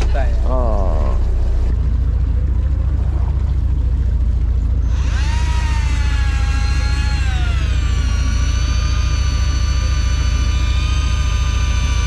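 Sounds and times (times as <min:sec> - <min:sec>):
boat engine throbbing: 0:00.0 - 0:12.0
engine whine: 0:00.0 - 0:12.0.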